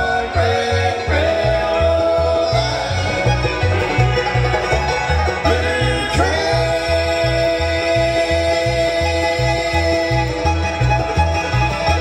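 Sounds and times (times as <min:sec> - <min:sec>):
bass notes: 0:00.0 - 0:12.0
bluegrass band playing: 0:00.0 - 0:12.0.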